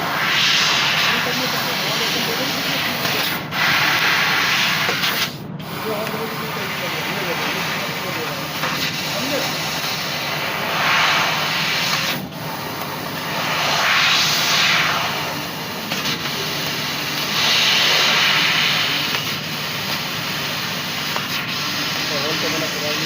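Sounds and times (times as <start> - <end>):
laser cutter drone: 0.0 - 23.0
rushing gas hiss: 0.0 - 23.0.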